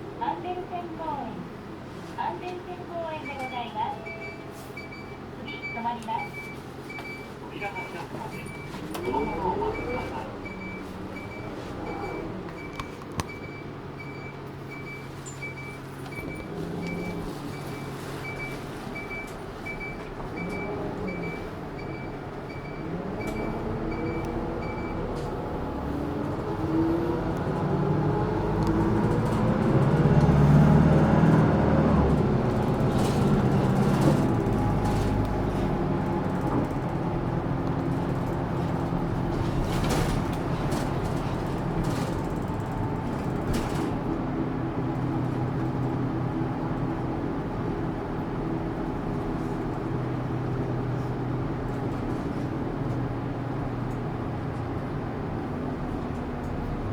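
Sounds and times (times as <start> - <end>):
bus diesel engine accelerating: 4.0 - 56.9
road noise: 6.6 - 56.9.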